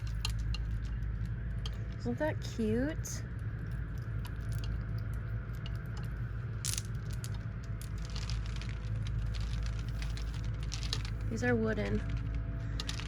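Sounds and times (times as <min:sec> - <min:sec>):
ornaments clicking and clattering: 0:00.0 - 0:02.1, 0:03.3 - 0:13.0
shop background hum: 0:00.0 - 0:13.0.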